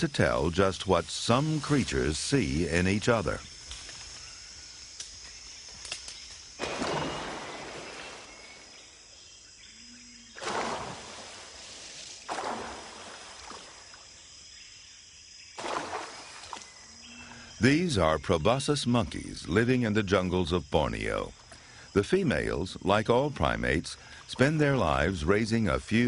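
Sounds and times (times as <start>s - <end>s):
high insect whine: 0.0s - 26.0s.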